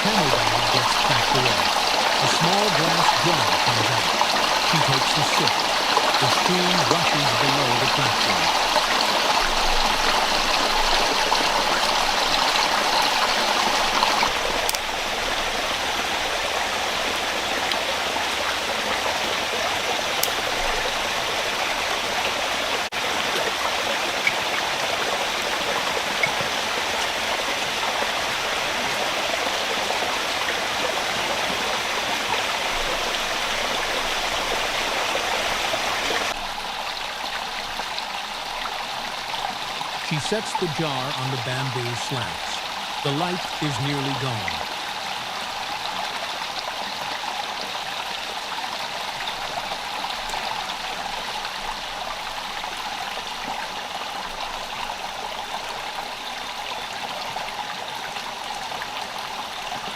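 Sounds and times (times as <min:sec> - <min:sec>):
stream rushing over stones: 0:00.0 - 0:54.3.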